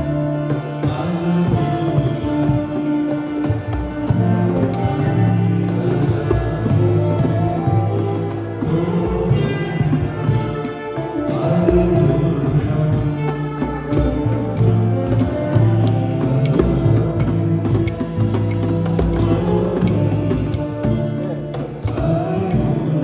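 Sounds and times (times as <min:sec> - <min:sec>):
hand drum beat: 0:00.0 - 0:23.0.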